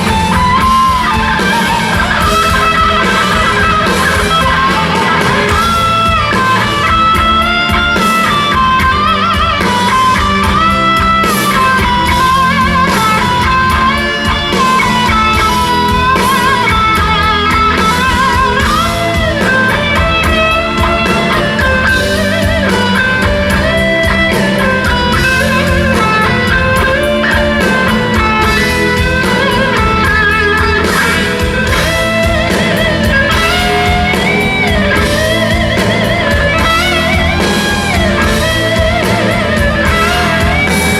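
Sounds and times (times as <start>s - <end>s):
bass and drums: 0.0s - 40.9s
electric guitar lead line: 0.0s - 40.9s.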